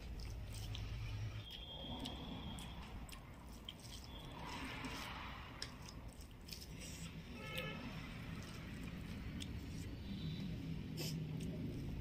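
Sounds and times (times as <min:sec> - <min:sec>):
chewing: 0:00.0 - 0:07.7, 0:08.3 - 0:10.2, 0:10.9 - 0:12.0.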